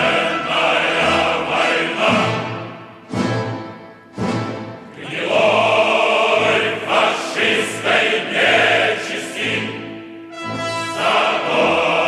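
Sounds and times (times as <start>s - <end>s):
choir singing with orchestra: 0.0s - 12.0s.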